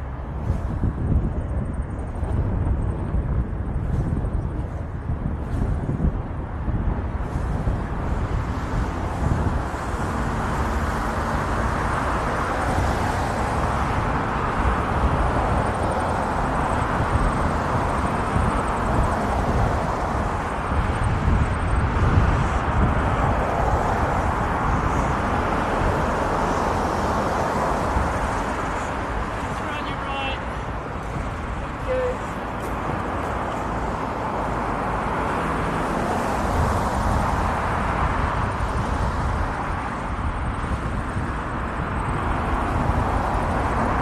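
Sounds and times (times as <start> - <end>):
skate wheels rolling on pavement: 0.0 - 44.0
wind rumbling on microphone: 0.0 - 44.0.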